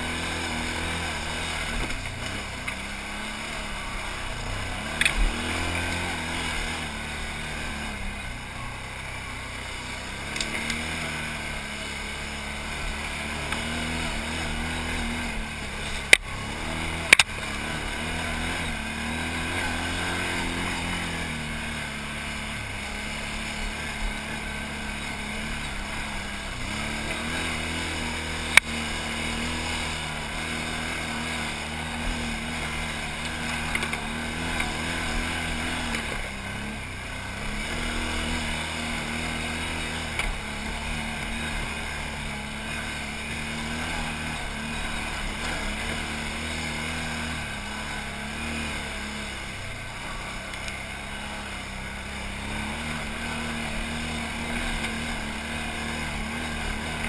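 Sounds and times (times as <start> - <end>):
atv engine under load: 0.0 - 57.0.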